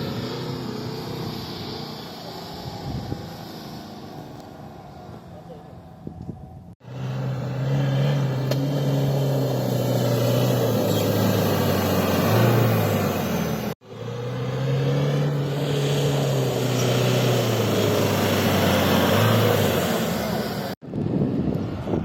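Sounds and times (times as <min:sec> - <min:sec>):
diesel engine running under load: 0:00.0 - 0:20.8.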